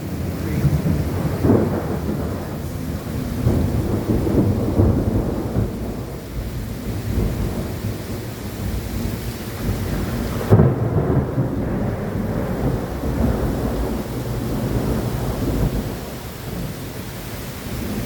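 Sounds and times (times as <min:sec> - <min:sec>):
rain hiss: 0:00.0 - 0:18.0
thunder rumbling: 0:00.0 - 0:18.0.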